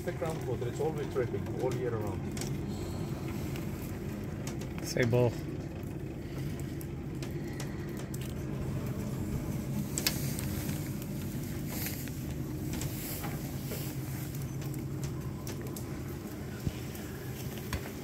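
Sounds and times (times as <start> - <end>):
lift mechanical hum: 0.0 - 18.0.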